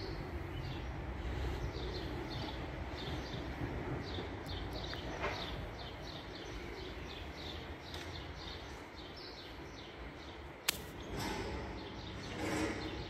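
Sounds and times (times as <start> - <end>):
bird chirping: 0.0 - 13.0
low street rumble: 0.0 - 13.0.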